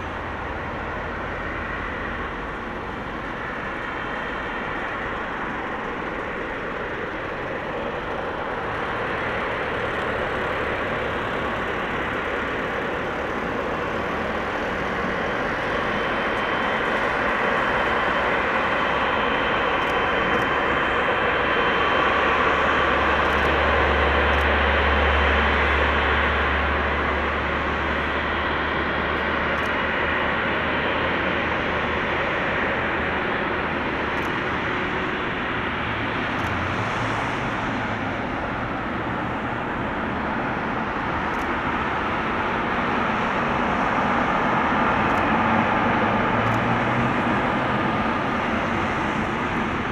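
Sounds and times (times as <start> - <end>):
jet engines rumbling: 0.0 - 49.9.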